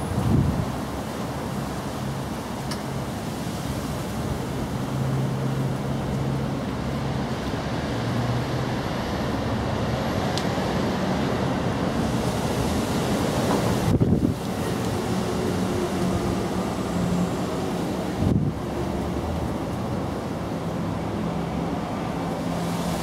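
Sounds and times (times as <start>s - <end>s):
even rushing noise: 0.0s - 23.0s.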